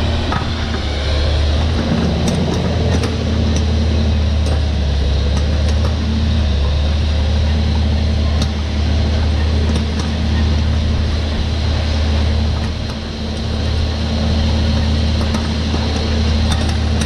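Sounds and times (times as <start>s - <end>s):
machinery ticks and rattles: 0.0s - 17.0s
tractor engine droning: 0.0s - 17.0s.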